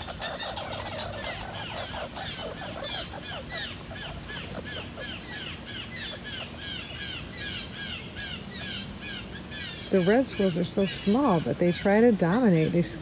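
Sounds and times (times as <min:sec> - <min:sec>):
squirrel chirping calls: 0:00.0 - 0:12.1.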